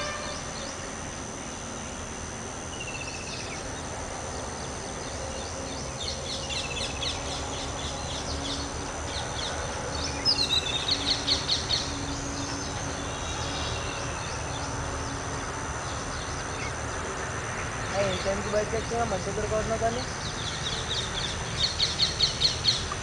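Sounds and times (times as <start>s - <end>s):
steady high-pitched whine: 0.0s - 23.0s
birds chirping: 2.7s - 23.0s.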